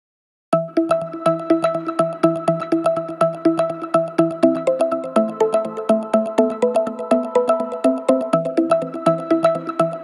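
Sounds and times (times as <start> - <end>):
music with quick beat and synth: 0.6 - 10.0.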